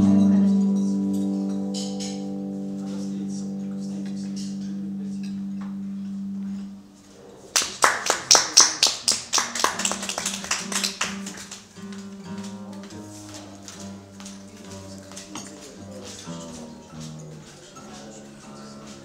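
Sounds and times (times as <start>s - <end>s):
acoustic guitar playing: 0.0s - 8.0s, 9.3s - 19.0s.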